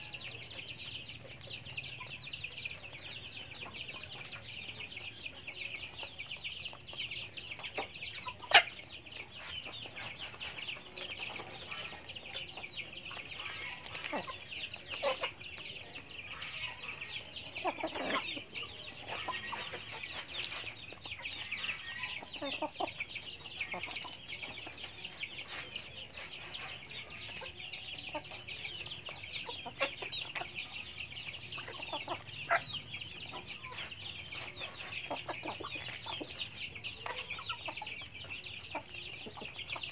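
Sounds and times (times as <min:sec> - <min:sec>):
hens and rooster clucking: 0:00.0 - 0:39.9.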